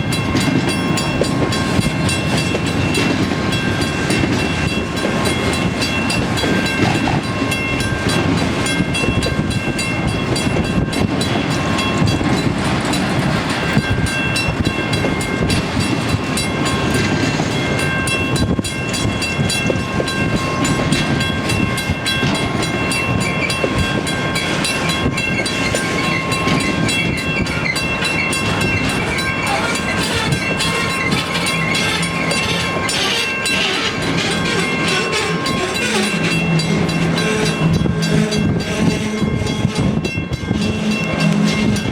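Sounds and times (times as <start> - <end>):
freight train wheels rumbling on rails: 0.0 - 41.9
steady high ringing tones: 0.0 - 41.9.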